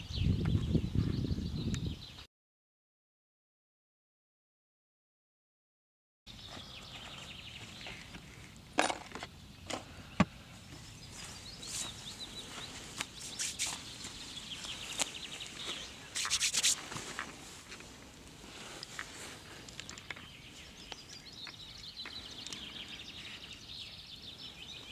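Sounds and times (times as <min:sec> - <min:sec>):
birds chirping: 0:00.0 - 0:02.3, 0:06.3 - 0:24.9.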